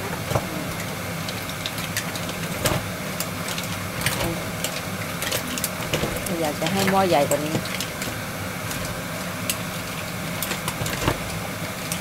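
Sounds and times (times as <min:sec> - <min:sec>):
low mechanical hum: 0:00.0 - 0:12.0
mussel shells clattering in pot: 0:00.2 - 0:12.0.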